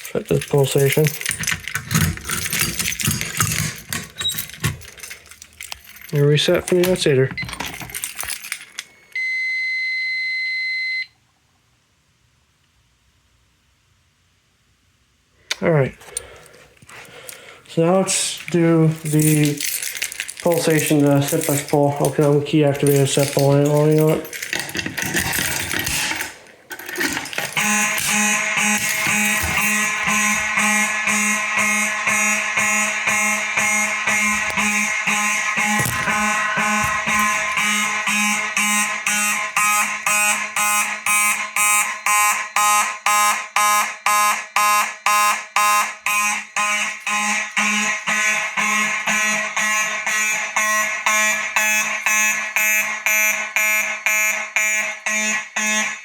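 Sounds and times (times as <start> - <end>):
fire alarm horns buzzing: 0.3 - 8.5, 17.7 - 25.9, 27.0 - 56.0.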